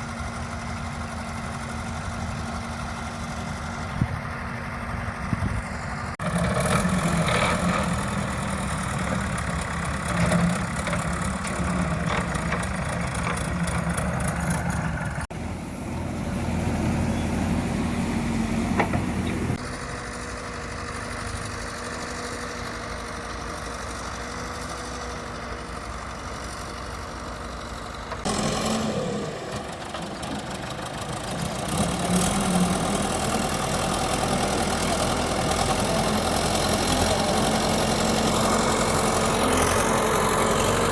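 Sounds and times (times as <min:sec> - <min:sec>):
diesel engine working: 0:00.0 - 0:40.9.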